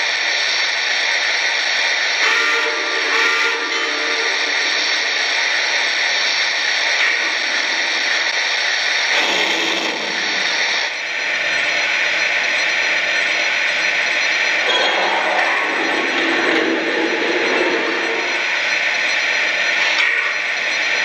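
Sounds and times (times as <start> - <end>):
steam locomotive hissing sound effect: 0.0 - 21.0.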